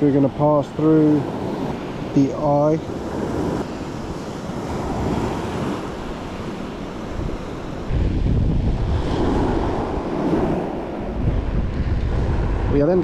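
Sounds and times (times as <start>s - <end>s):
surf washing on shore: 0.0s - 13.0s
wind buffeting microphone: 0.0s - 13.0s.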